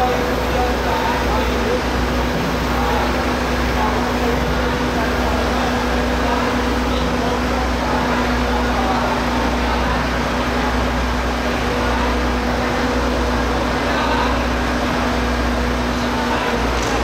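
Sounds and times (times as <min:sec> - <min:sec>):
faint voices: 0:00.0 - 0:17.0
heavy diesel engine running: 0:00.0 - 0:17.0.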